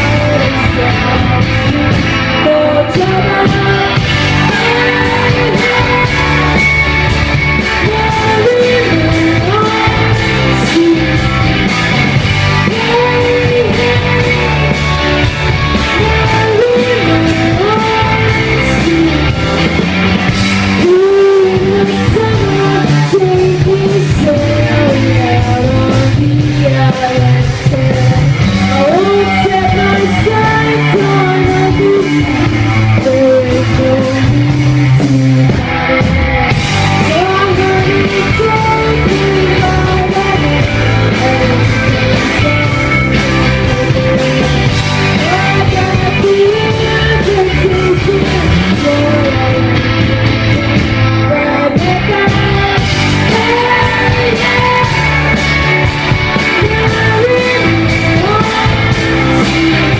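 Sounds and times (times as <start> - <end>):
woman singing: 0.0 - 35.7, 36.5 - 59.9
bass guitar: 0.0 - 59.9
drums: 0.0 - 59.9
electric guitars: 0.0 - 59.9.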